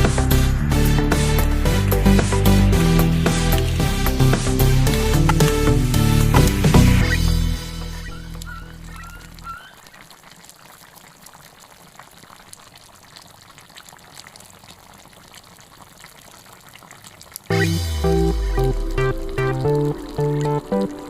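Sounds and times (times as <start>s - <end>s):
food crackling in a pot: 3.0s - 17.5s, 18.3s - 21.0s.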